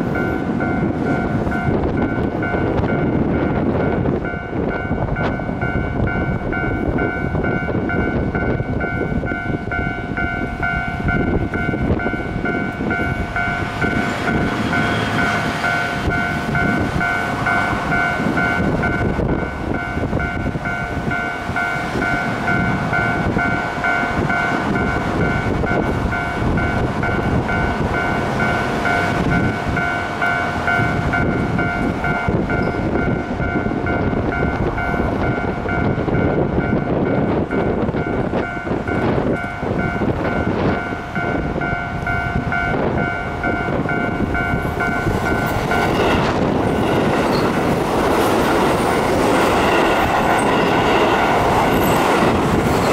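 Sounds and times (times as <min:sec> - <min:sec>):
level-crossing alarm dinging: 0:00.0 - 0:52.9
train rumbling over rails: 0:00.0 - 0:52.9
wheels clickety-clack: 0:00.1 - 0:52.9.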